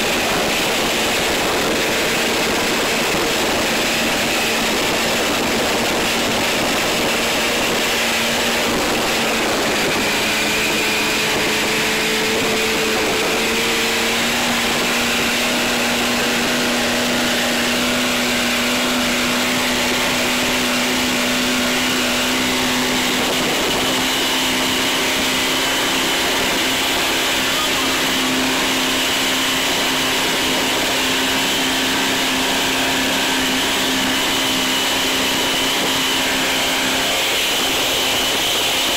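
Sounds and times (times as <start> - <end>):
boat engine drone: 0.0 - 38.9
rush of wind and water: 0.0 - 38.9.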